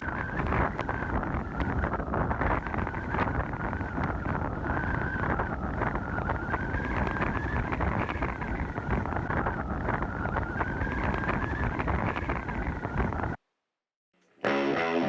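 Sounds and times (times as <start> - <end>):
faint high whine: 0.0 - 13.4.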